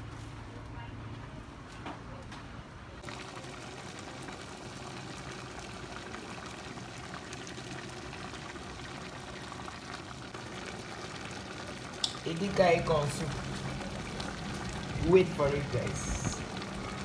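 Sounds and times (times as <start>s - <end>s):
soup bubbling in a pot: 3.0s - 17.0s.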